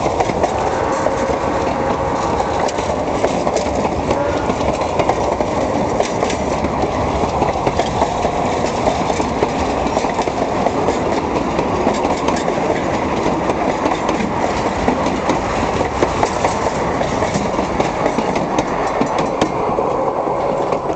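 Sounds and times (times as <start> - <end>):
train wheels rumbling: 0.0 - 20.9.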